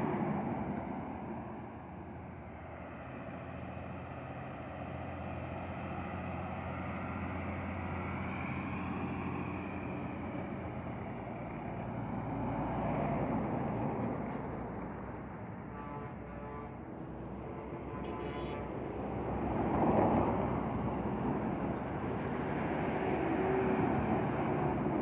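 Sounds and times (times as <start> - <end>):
diesel trucks driving past: 0.0 - 25.0.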